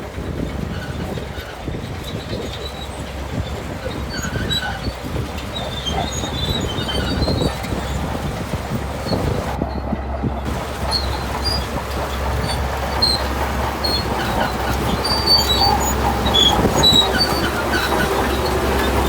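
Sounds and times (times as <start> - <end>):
bulldozer diesel engine rumbling: 0.0 - 19.0
steel tracks clanking and squealing: 0.0 - 19.0.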